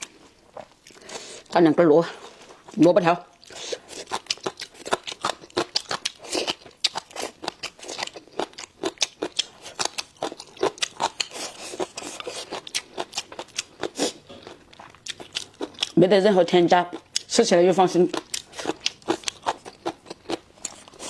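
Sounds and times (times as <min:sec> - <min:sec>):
crunchy vegetable chewing: 0:00.0 - 0:01.6, 0:02.2 - 0:21.0.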